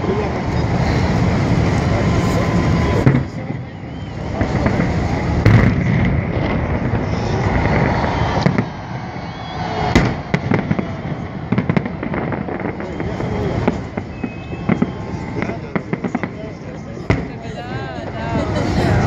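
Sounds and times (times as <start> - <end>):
fireworks booming: 0.0 - 19.0
fireworks crackling: 0.0 - 19.0
onlookers' voices: 0.0 - 19.0.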